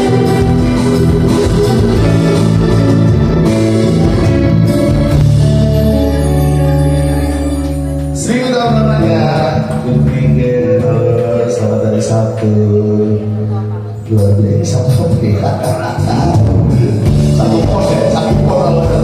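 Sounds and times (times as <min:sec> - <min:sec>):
person singing: 0:00.0 - 0:14.0, 0:16.3 - 0:19.0
live band playing: 0:00.0 - 0:14.1, 0:14.9 - 0:19.0
guitar: 0:00.0 - 0:19.0.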